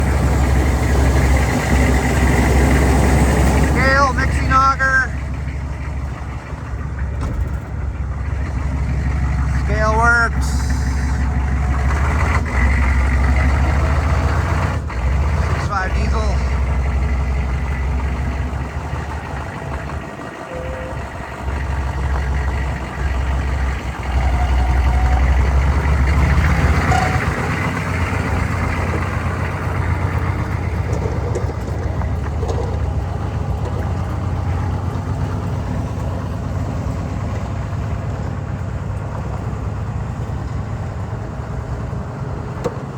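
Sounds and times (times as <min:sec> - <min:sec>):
pickup truck engine running: 0:00.0 - 0:42.9.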